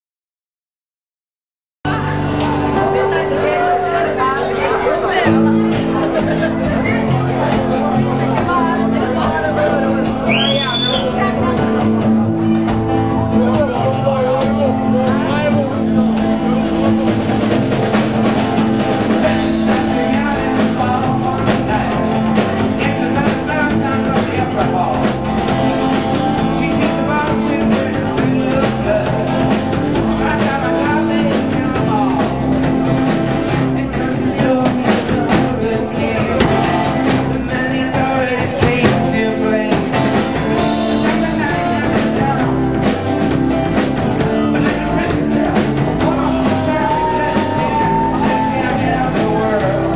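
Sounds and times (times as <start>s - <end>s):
drum kit: 1.9s - 49.9s
guitars: 1.9s - 49.9s
person singing: 2.7s - 32.7s, 33.5s - 49.9s.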